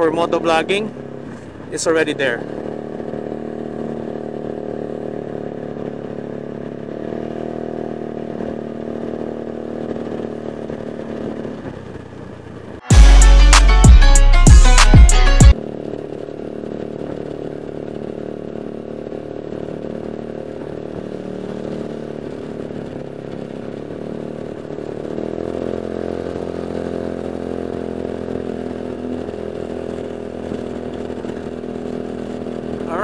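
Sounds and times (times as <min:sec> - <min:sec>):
motorcycle engine running steadily: 0:00.0 - 0:33.0.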